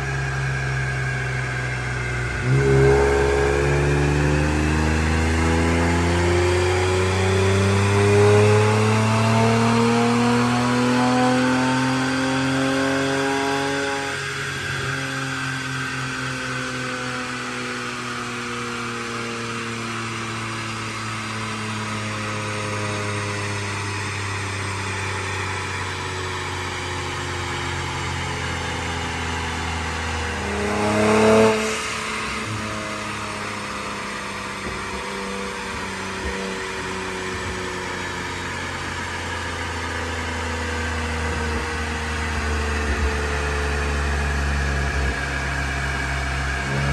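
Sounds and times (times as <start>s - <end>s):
car engine revving on a dyno: 0.0s - 46.9s.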